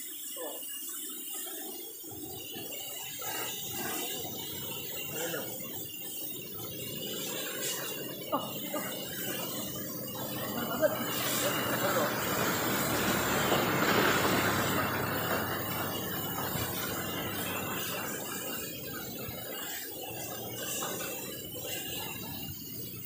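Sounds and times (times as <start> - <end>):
pressure washer spraying water: 0.0 - 23.0.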